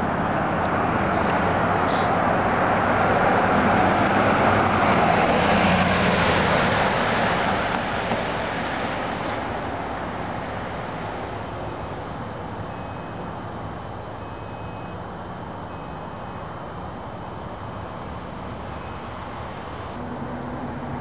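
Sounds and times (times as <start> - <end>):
vehicle passing: 0.0 - 12.6, 16.2 - 21.0.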